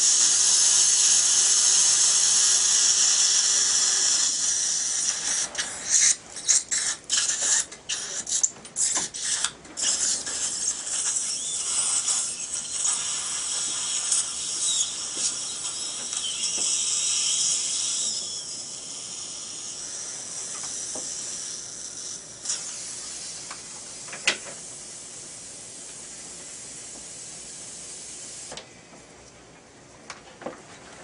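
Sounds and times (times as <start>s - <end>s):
dental drill hissing: 0.0s - 28.6s.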